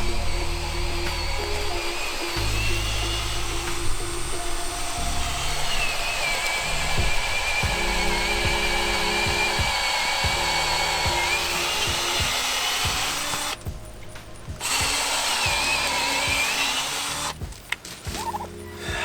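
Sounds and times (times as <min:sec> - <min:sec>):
background music with steady beat: 0:00.0 - 0:19.0
power drill whining: 0:00.0 - 0:19.0.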